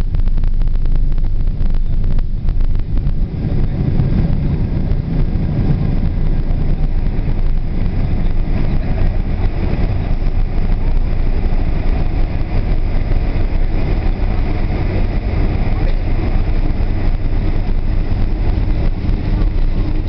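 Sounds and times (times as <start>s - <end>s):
airplane cabin rumble while taxiing: 0.0s - 20.0s
engine hiss: 0.0s - 20.0s.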